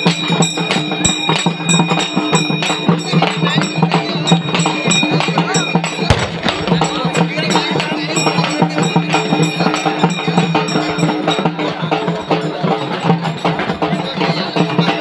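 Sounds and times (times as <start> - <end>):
music with fast percussion: 0.0 - 15.0.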